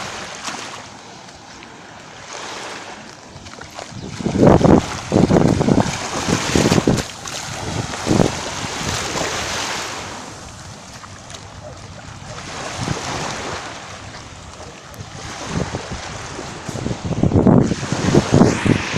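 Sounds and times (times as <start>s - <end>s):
waves washing onto beach: 0.0s - 18.9s
wind buffeting microphone: 3.0s - 18.9s.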